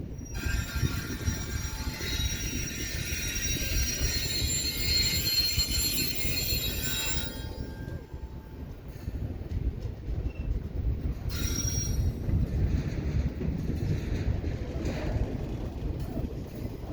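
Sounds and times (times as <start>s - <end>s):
train wheels squealing: 0.0s - 9.4s, 10.0s - 15.0s
train rolling over track: 0.0s - 16.9s.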